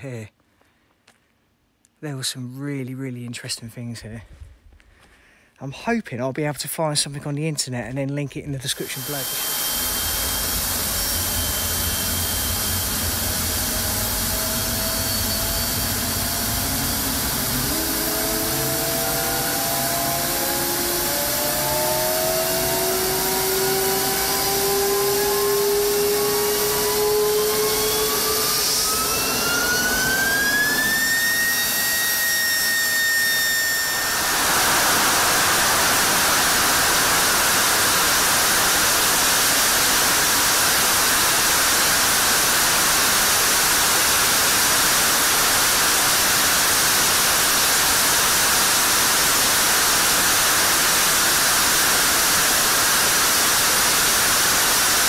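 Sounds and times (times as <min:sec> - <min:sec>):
jet engine whine: 0:08.6 - 0:55.0
afterburner roar: 0:08.9 - 0:55.0.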